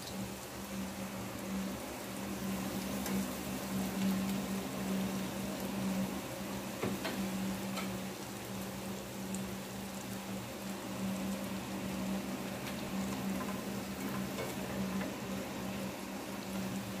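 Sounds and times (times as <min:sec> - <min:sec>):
food sizzling in oil: 0:00.0 - 0:17.0
oil crackles and pops: 0:00.0 - 0:17.0.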